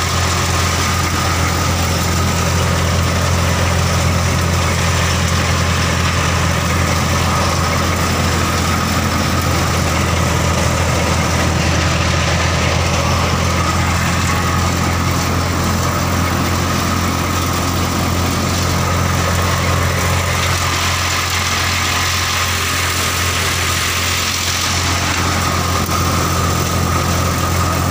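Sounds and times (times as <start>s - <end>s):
thresher high whine: 0.0s - 27.9s
tractor diesel engine running: 0.0s - 27.9s.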